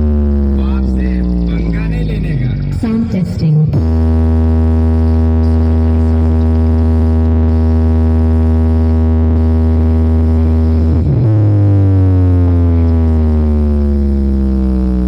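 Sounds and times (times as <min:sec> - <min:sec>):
synthesizer bass tone: 0:00.0 - 0:15.0.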